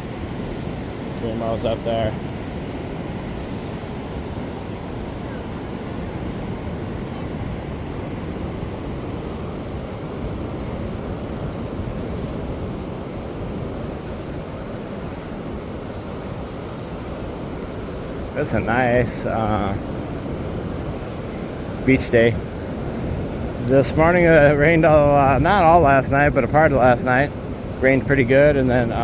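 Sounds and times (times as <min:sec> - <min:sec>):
ocean surf: 0:00.0 - 0:29.0
wind: 0:00.0 - 0:29.0.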